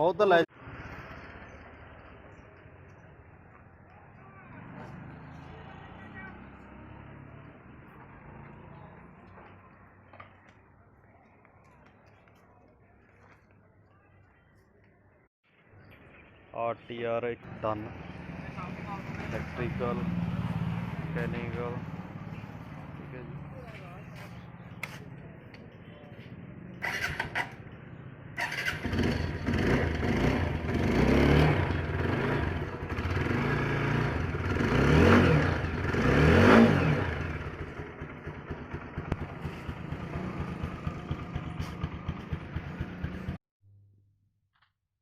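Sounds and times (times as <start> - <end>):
motorcycle engine idling and revving: 0.1 - 10.7, 17.4 - 43.4.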